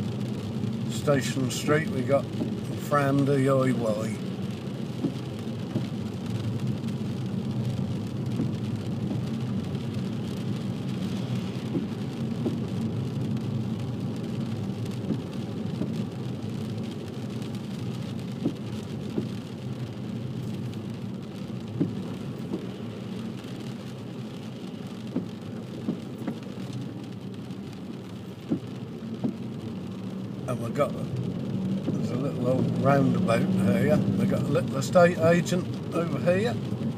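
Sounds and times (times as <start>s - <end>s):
car engine and tyre rumble: 0.0s - 36.9s
rain tapping on car: 0.0s - 36.9s.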